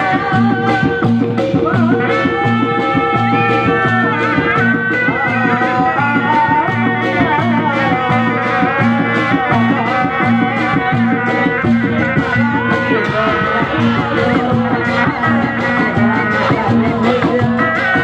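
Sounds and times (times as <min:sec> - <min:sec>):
drums low beat: 0:00.0 - 0:18.0
high wavering melody: 0:01.7 - 0:18.0.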